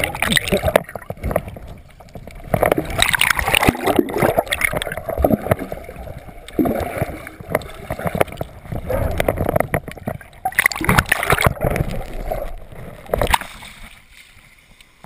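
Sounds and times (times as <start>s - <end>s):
muffled underwater rushing water: 0.0s - 15.0s.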